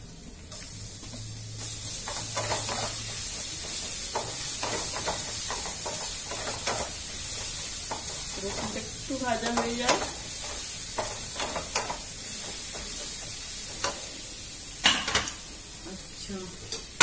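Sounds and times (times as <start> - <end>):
garlic paste sizzling in oil: 0.0 - 17.0
spatula scraping and stirring: 0.5 - 14.2.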